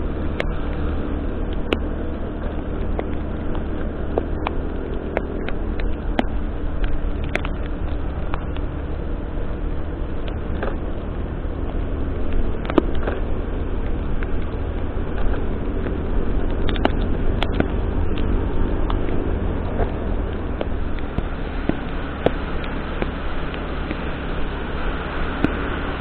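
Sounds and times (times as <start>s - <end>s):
engine and tyres rumbling: 0.0s - 26.0s.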